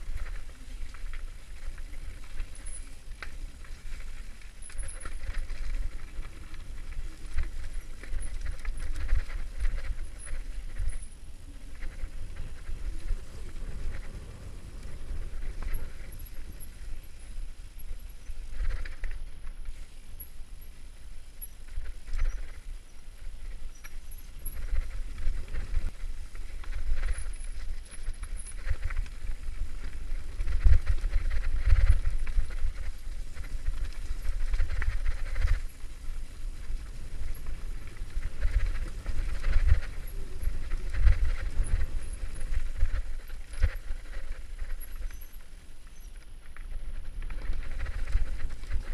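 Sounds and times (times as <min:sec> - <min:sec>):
rumble of wind and vibration: 0:00.0 - 0:48.9.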